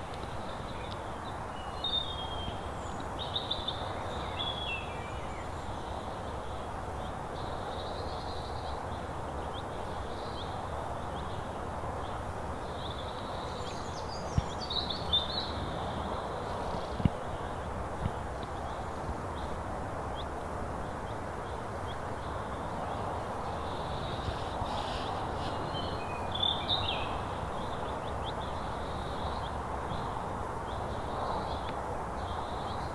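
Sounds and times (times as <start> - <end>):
small birds chirping: 0.0 - 32.9
steady rushing outdoor noise: 0.0 - 32.9.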